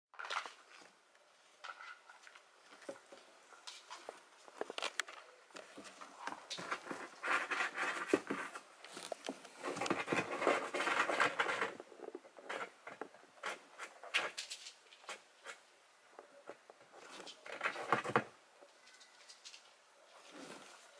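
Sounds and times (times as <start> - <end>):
kitten scuffling and scratching: 2.7 - 20.9.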